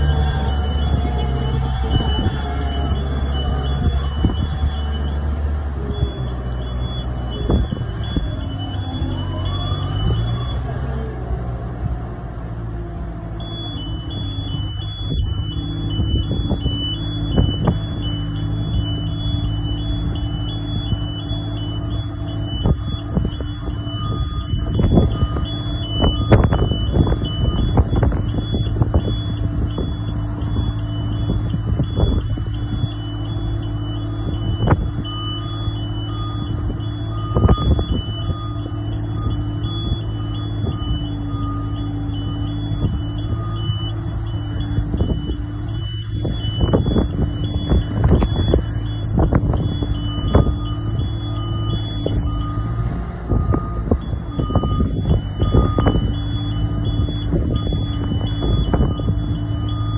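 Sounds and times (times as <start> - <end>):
two-tone warbling warning alarm: 0.0 - 10.8, 13.4 - 59.9
boom lift engine running: 0.0 - 59.9.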